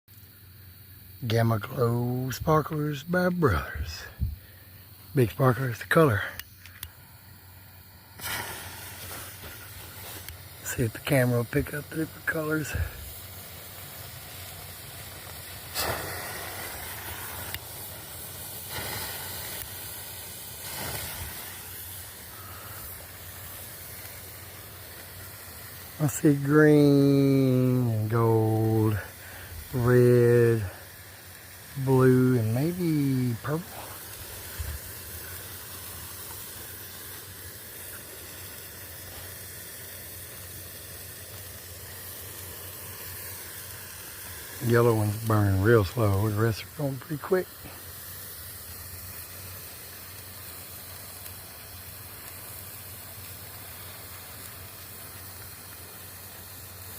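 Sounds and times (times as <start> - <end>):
sparklers hissing: 0.1 - 56.9.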